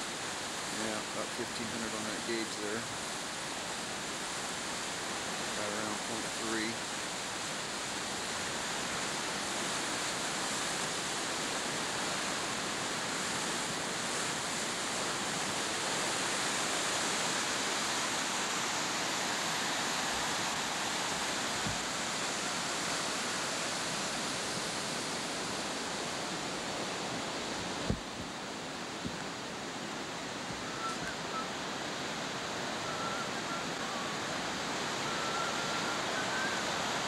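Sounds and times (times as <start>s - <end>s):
water rushing through a channel: 0.0s - 37.0s.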